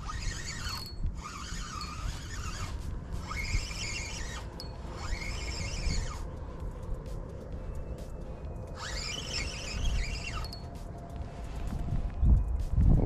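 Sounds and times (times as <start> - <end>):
spinning reel whirring: 0.0 - 11.1.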